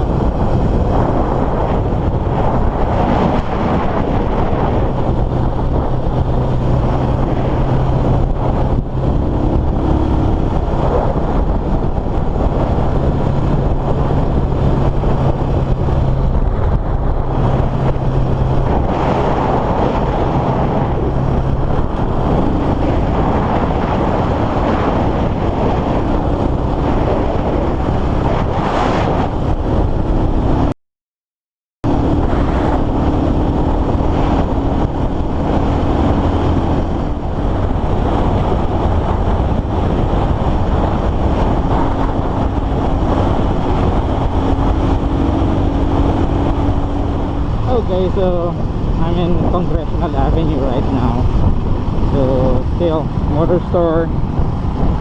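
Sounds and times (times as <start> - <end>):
motorcycle engine drone: 0.0 - 30.7, 31.8 - 55.0
wind rush on microphone: 0.0 - 30.7, 31.8 - 55.0.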